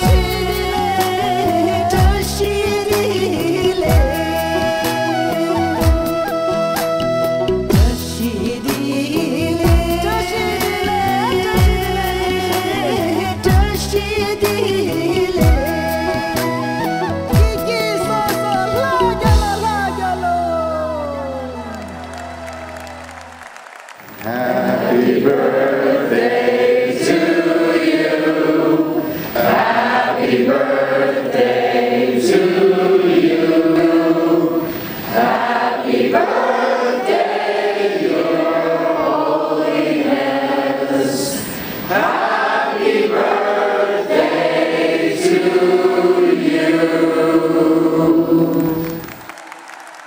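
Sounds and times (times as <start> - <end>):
group singing in unison: 0.0 - 6.2, 7.8 - 16.9, 24.2 - 49.2.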